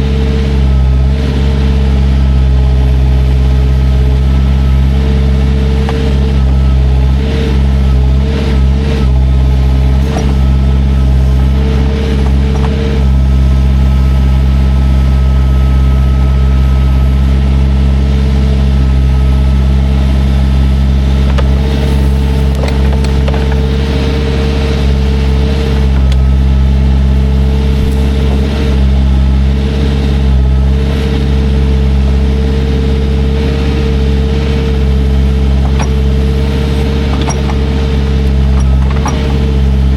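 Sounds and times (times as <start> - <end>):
heavy equipment engine droning: 0.0 - 39.9.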